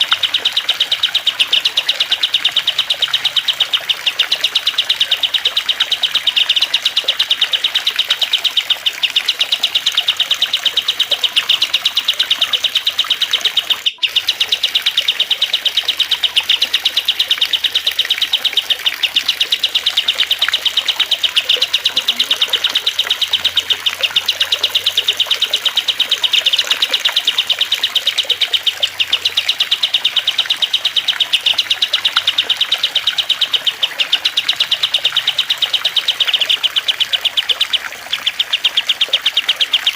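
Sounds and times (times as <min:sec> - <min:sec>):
songbirds chirping and trilling: 0:00.0 - 0:39.9
trickling water: 0:00.0 - 0:39.9.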